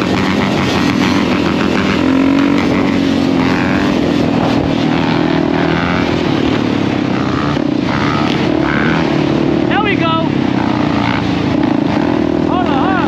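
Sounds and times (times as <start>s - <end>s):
dirt bike engine running: 0.0s - 13.0s
other dirt bike and quad engines: 0.0s - 13.0s.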